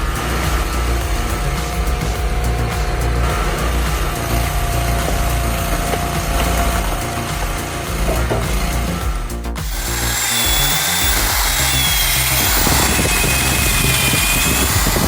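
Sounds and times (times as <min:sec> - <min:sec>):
background music: 0:00.0 - 0:15.0
power tool running: 0:00.0 - 0:15.0.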